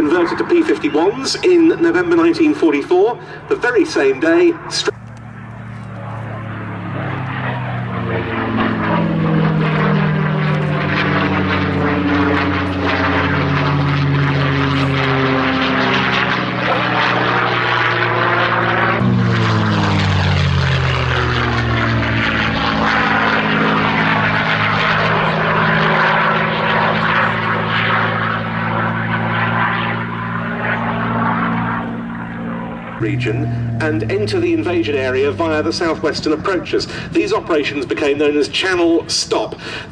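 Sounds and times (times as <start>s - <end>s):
propeller plane engine flying by: 0.0s - 39.9s.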